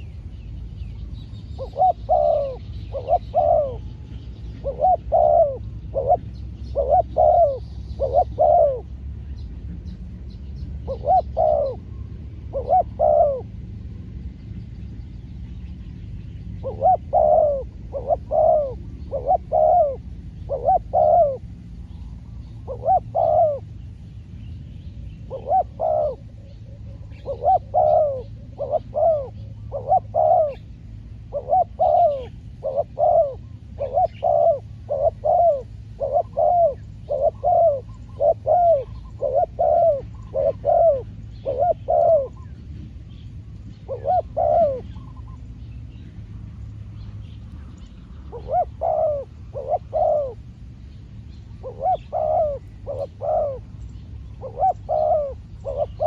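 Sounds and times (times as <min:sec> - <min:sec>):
small birds chirping: 0:00.0 - 0:13.5, 0:14.2 - 0:56.0
doves cooing: 0:01.6 - 0:09.2, 0:10.7 - 0:13.8, 0:16.5 - 0:23.8, 0:25.2 - 0:42.8, 0:43.4 - 0:45.6, 0:48.0 - 0:56.0.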